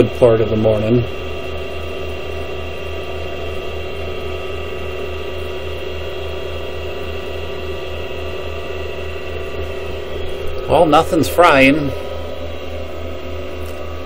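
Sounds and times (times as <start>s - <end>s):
inverter whine: 0.0s - 14.0s
power inverter electrical hum: 0.0s - 14.0s.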